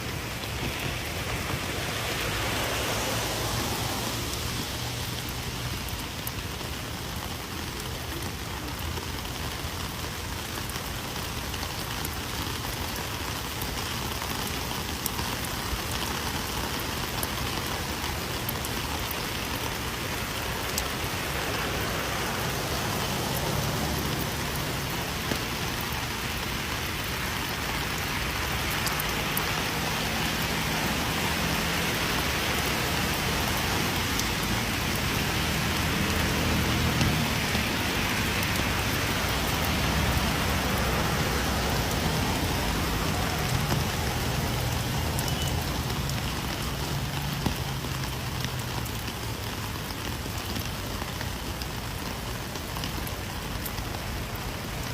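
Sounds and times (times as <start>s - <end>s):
rain falling steadily: 0.0s - 54.9s.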